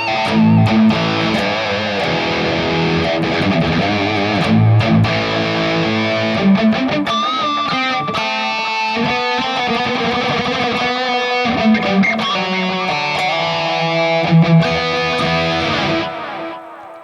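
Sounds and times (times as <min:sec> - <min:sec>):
distorted electric guitar lead: 0:00.0 - 0:17.0.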